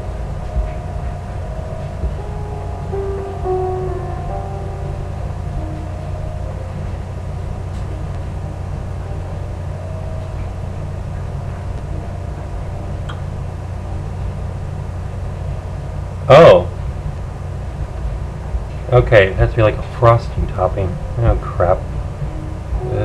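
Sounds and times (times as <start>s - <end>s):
faint music: 0.0s - 23.0s
steady low hum: 0.0s - 23.0s.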